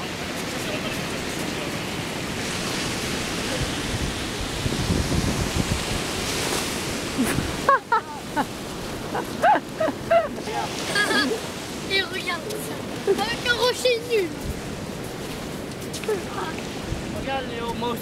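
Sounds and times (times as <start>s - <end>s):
small waves washing onto shore: 0.0s - 18.0s
wind rumbling on microphone: 0.0s - 18.0s.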